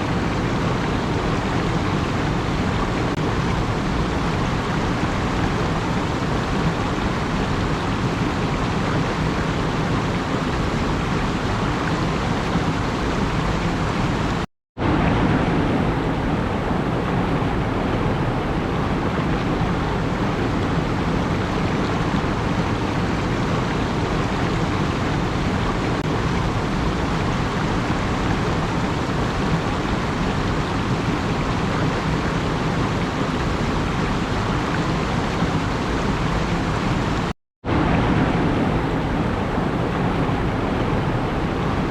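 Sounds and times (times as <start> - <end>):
steady rushing noise: 0.0 - 41.9.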